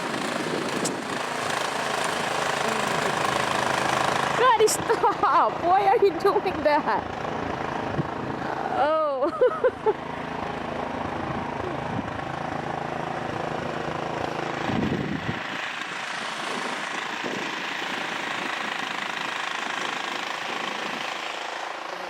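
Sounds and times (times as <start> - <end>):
small engine pulsing: 0.0 - 22.0.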